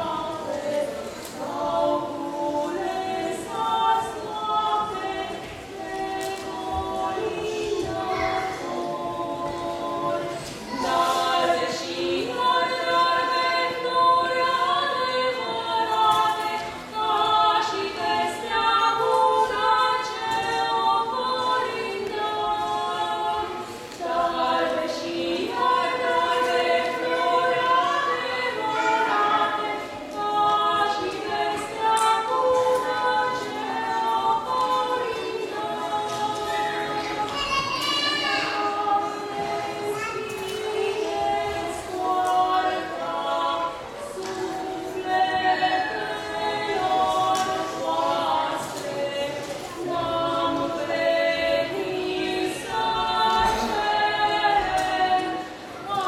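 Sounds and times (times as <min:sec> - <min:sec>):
two women singing unaccompanied: 0:00.0 - 0:56.0.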